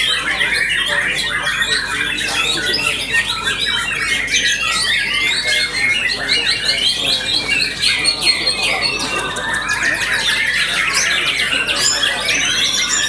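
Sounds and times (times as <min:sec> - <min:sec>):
birds singing chirps and trills: 0:00.0 - 0:13.0.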